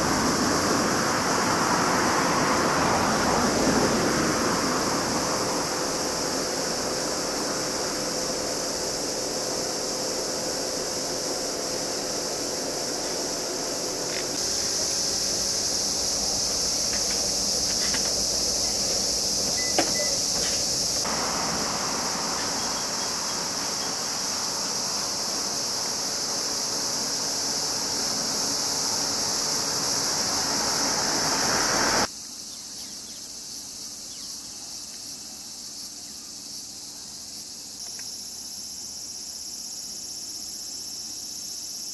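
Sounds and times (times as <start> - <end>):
shrill insect chorus: 0.0 - 41.9.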